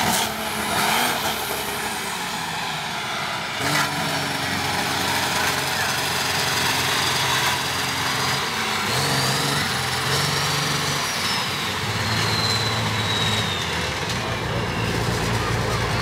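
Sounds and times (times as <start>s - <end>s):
monster truck engine running: 0.0s - 16.0s.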